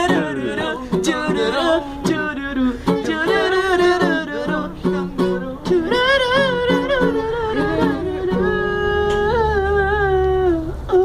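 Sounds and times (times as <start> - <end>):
person singing: 0.0 - 11.0
strummed acoustic guitar: 0.0 - 11.0.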